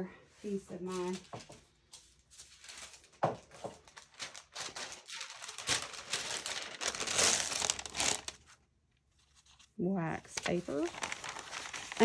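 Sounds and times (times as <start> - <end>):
wax paper crinkling: 0.7 - 12.0.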